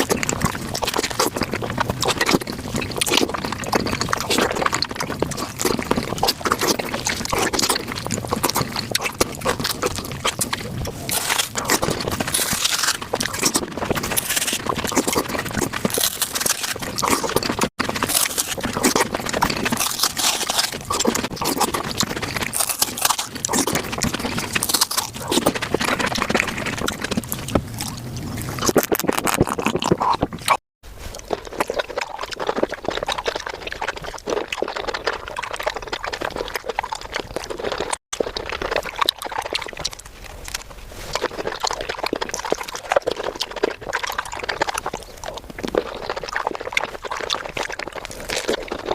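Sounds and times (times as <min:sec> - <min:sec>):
crunchy chewing of fruit: 0:00.0 - 0:48.9.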